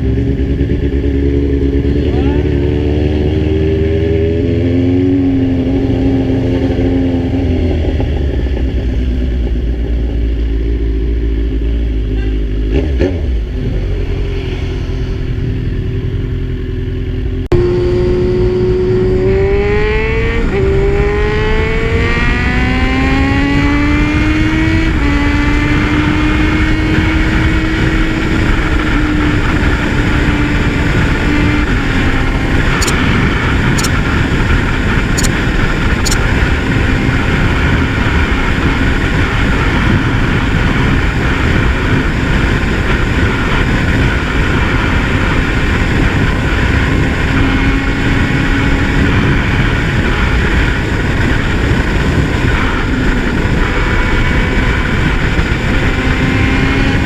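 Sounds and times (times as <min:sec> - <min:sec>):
motorcycle engine revving: 0:00.0 - 0:57.0
wind rumble on microphone: 0:00.0 - 0:57.0.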